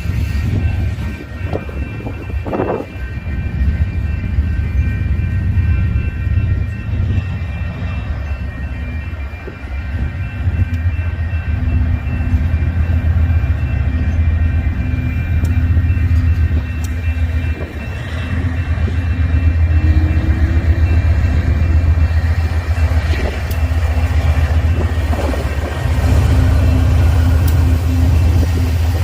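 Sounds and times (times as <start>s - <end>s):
freight train rumbling on rails: 0.0s - 29.0s.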